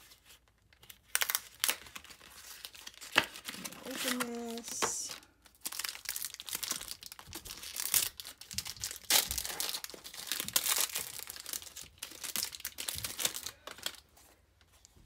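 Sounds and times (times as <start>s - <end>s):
foil pouch crinkling and tearing: 0.0s - 14.1s.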